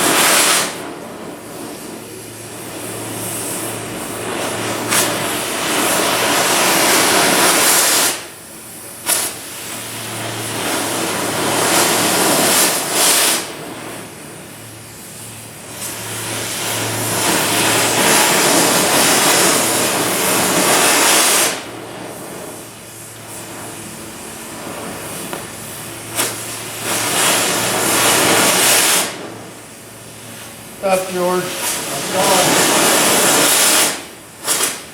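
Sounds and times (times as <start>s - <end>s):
steady low hum: 0.0s - 34.5s
cutting torch hissing and roaring: 0.0s - 34.9s.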